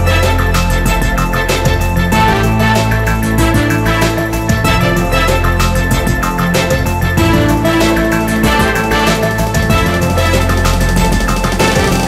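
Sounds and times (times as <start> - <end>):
synth music with steady beat: 0.0 - 12.0.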